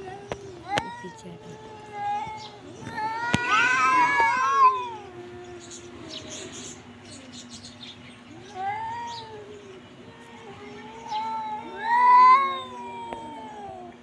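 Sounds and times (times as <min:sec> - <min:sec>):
cat meowing: 0:00.0 - 0:06.5, 0:08.3 - 0:14.0.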